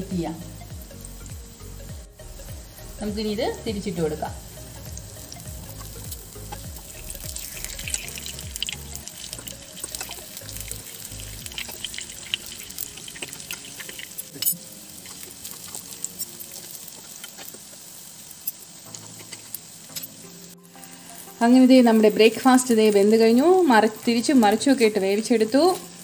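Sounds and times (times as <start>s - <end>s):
oil sizzling and crackling: 0.0s - 26.0s.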